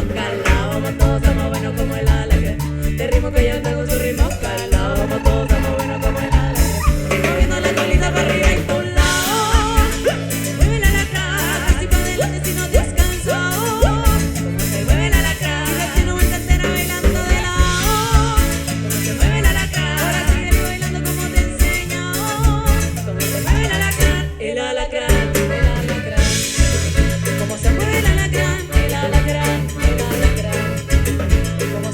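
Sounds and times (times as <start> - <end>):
drum kit: 0.0 - 24.4, 25.0 - 31.9
accordion: 0.0 - 31.9
electric bass: 0.0 - 31.9
guitar: 0.0 - 31.9.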